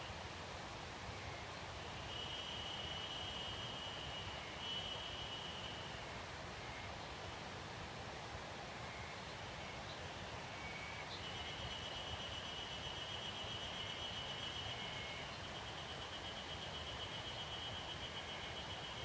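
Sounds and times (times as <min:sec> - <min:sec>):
soft steady hiss: 0:00.0 - 0:19.0.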